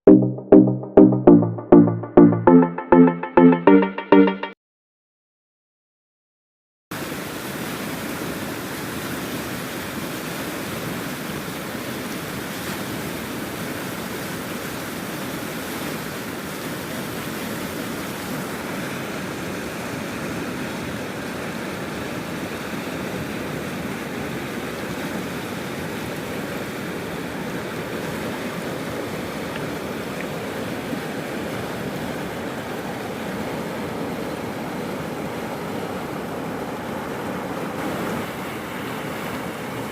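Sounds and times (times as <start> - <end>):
flood water rushing: 7.0 - 39.9.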